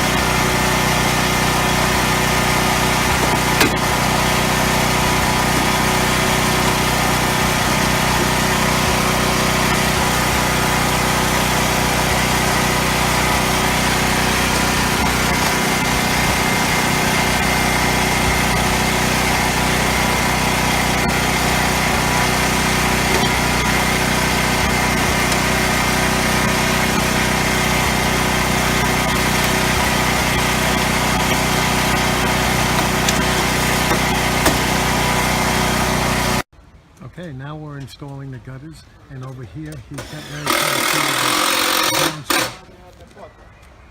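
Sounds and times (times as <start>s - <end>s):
small engine running steadily: 0.0s - 36.5s, 39.9s - 42.6s.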